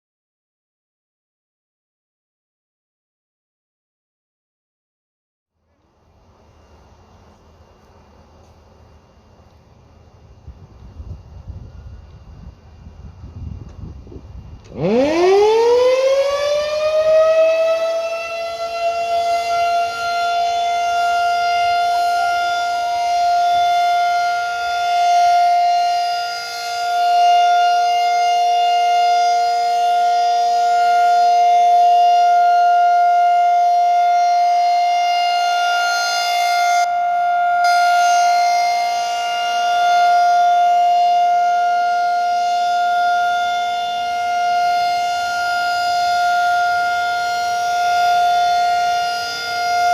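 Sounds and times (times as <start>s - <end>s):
outdoor warning siren steady tone: 5.5s - 49.9s.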